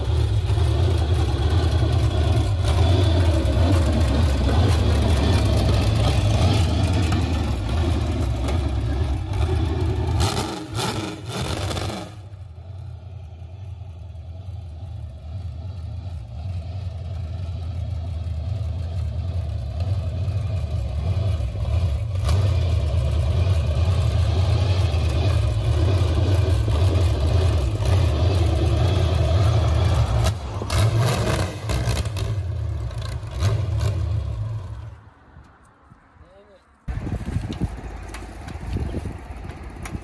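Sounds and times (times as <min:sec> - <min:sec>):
vee eight engine running: 0:00.0 - 0:35.0.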